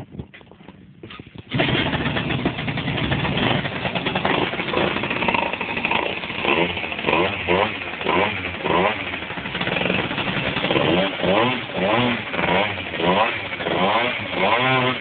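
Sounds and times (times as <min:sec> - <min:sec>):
scooter engine running: 0:00.2 - 0:15.0.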